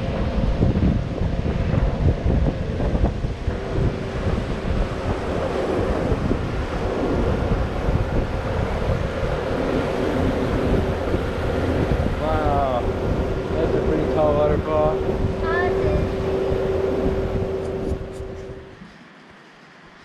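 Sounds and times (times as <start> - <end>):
boat engine humming: 0.0 - 20.0
wind buffeting microphone: 0.0 - 20.0
water rushing: 2.4 - 18.9.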